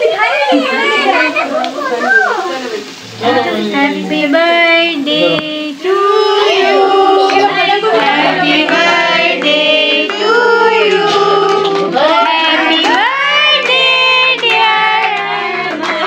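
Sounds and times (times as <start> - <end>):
group singing a birthday song: 0.0 - 16.0.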